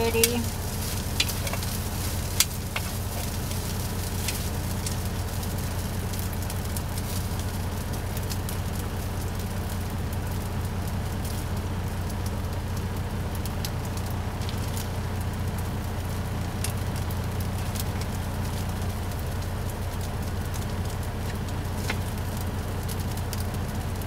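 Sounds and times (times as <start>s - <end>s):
sausage sizzling in a frying pan: 0.0s - 24.0s.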